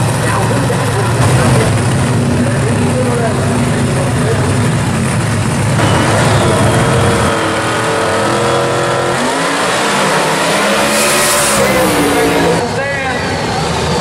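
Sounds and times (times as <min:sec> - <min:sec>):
dragster engine revving: 0:00.0 - 0:13.9.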